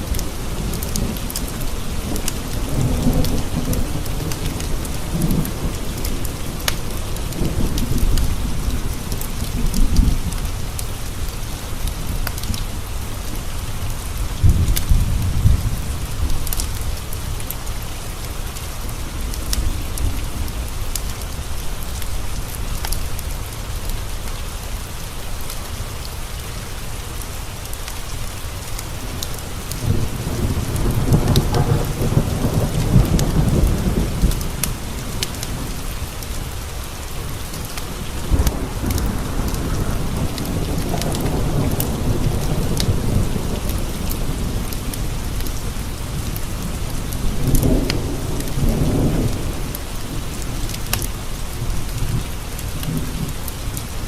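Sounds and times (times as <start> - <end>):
thunder rumbling: 0.0 - 23.2, 28.1 - 54.0
rain on a window: 0.0 - 54.0.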